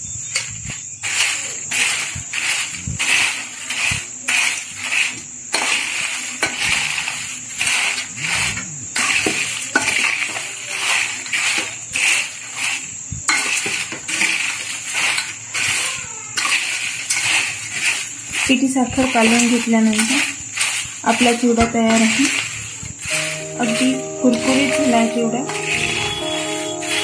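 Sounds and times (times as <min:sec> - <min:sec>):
dry flakes rustling in a pan: 0:00.4 - 0:27.0.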